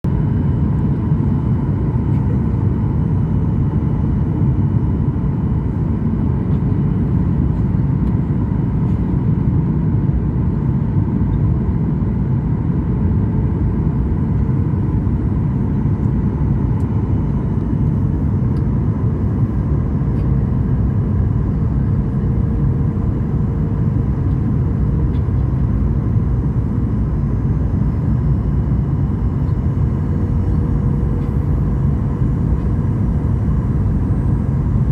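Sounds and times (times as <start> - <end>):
airplane cabin engine drone: 0.1 - 34.9
faint steady engine tones: 0.1 - 34.9.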